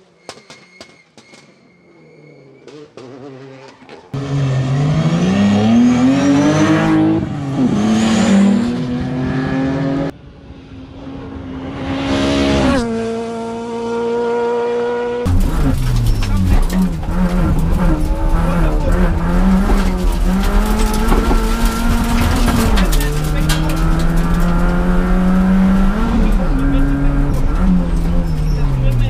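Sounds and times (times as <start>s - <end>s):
engine revving through gears: 2.4s - 10.1s, 11.6s - 29.0s.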